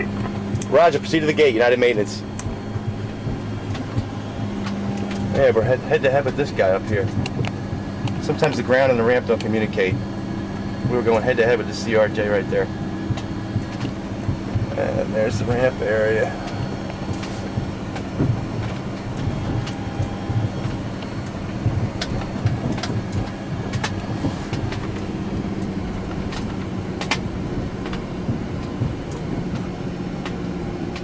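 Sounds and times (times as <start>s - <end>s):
sharp clicks and rattles: 0.0s - 31.0s
steady hum with low rumble: 0.0s - 31.0s.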